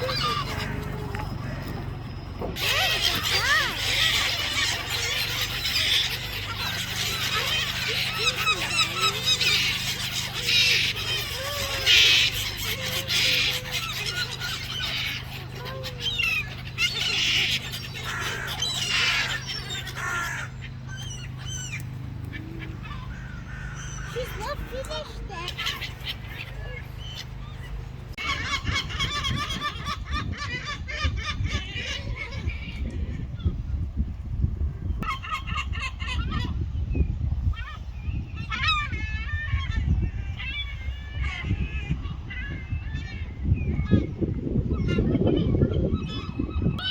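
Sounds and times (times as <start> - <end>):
steady low hum: 0.0 - 39.0
gulls squawking: 0.0 - 46.9
gulls yelping: 0.0 - 46.9
low background rumble: 0.0 - 46.9.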